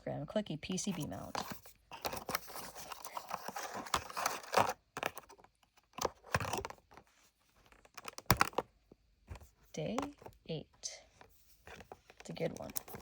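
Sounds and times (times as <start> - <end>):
rustling handling noise: 0.7 - 13.0.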